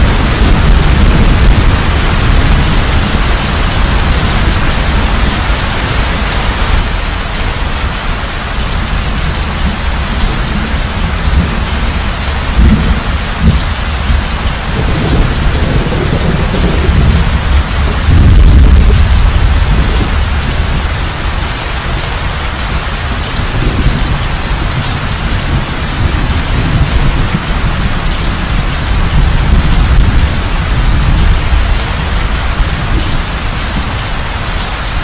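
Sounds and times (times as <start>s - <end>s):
low rumbling thunder: 0.0s - 34.1s
steady rain: 0.0s - 35.0s.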